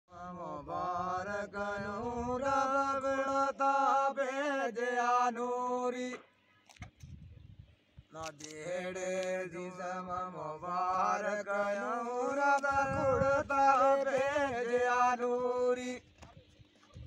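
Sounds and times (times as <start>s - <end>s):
men singing unaccompanied: 0.1s - 6.3s, 8.2s - 16.1s.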